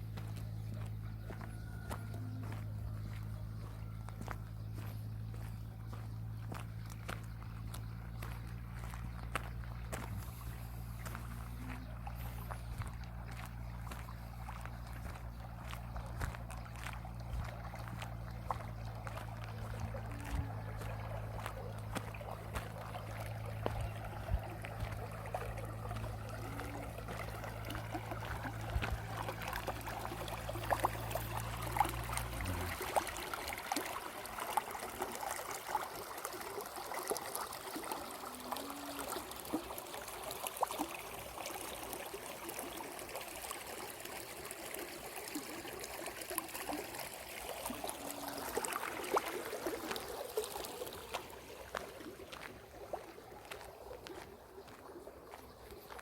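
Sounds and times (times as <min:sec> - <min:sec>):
low mechanical hum: 0:00.0 - 0:45.8
water trickling and splashing: 0:00.0 - 0:56.0.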